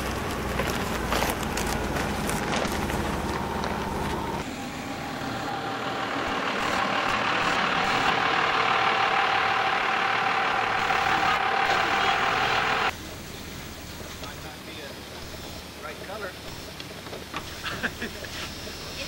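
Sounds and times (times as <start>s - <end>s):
heavy vehicle engine whine: 0.0s - 15.8s.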